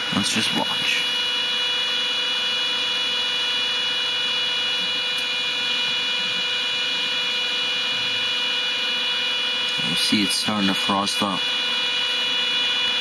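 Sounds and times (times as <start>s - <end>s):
small cooling fans running: 0.0s - 13.0s.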